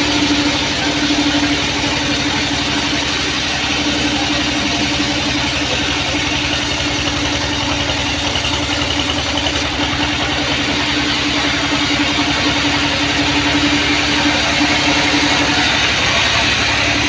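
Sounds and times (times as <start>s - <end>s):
band saw machinery droning: 0.0s - 17.0s.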